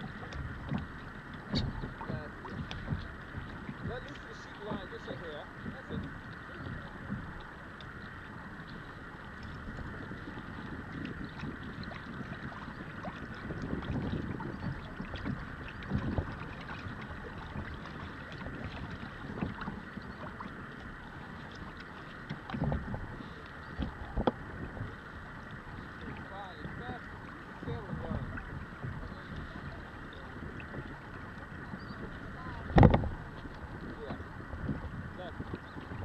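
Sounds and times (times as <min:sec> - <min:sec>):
water lapping against kayak hull: 0:00.0 - 0:36.0
wind rumbling on microphone: 0:00.0 - 0:36.0.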